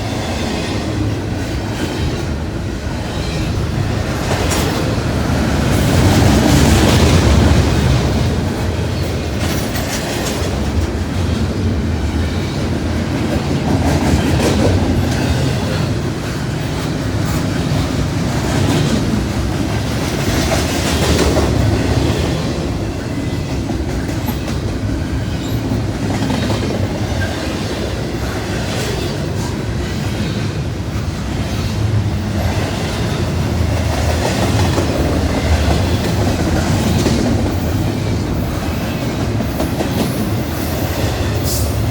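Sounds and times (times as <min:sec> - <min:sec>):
freight train rumbling: 0:00.0 - 0:41.9
train wheels clattering on rails: 0:00.0 - 0:41.9.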